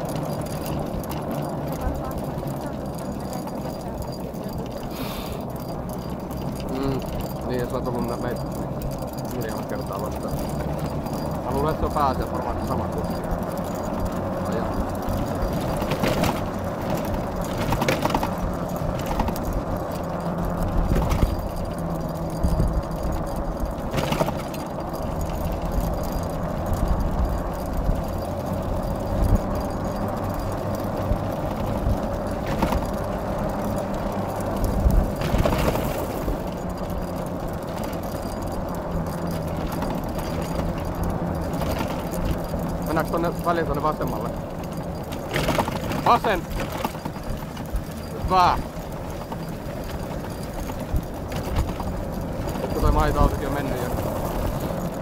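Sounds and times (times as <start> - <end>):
tyres and frame rolling rumble: 0.0 - 55.0.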